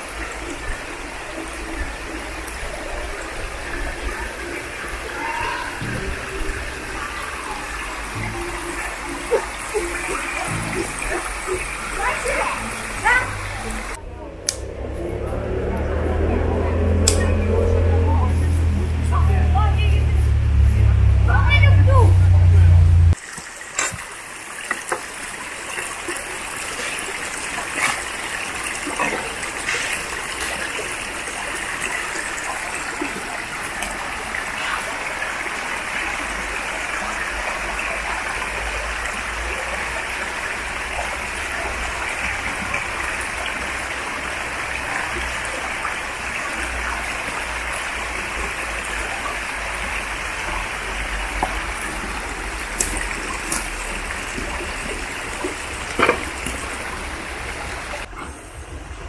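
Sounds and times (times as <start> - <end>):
stream flowing over stones: 0.0 - 14.6, 23.1 - 58.1.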